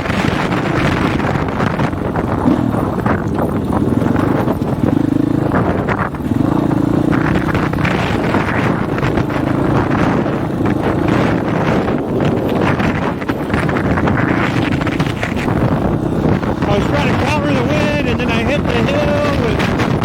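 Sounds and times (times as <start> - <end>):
dirt bike engine revving: 0.0 - 20.0
wind buffeting microphone: 0.0 - 20.0.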